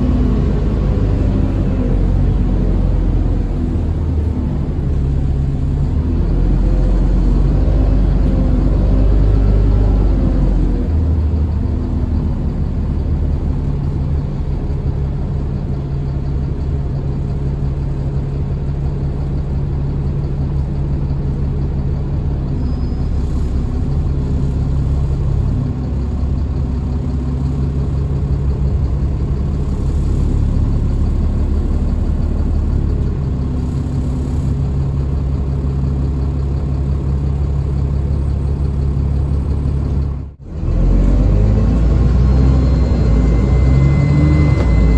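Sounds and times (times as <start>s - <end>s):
bus diesel engine droning: 0.0s - 44.9s.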